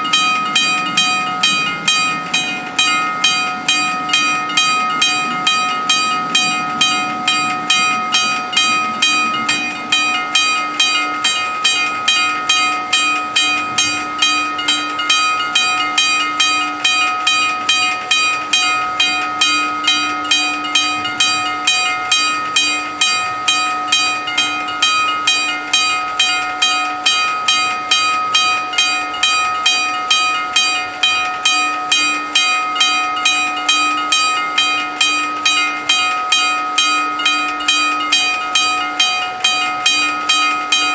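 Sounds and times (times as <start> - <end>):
level crossing bells ringing: 0.0 - 40.9.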